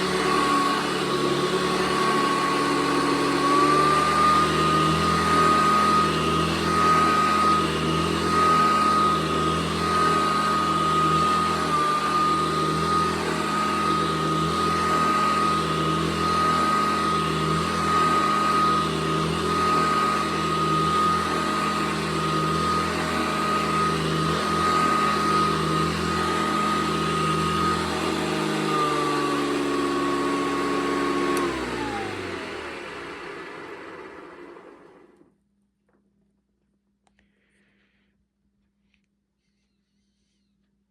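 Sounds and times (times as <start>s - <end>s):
vacuum cleaner motor whine: 0.0s - 35.3s.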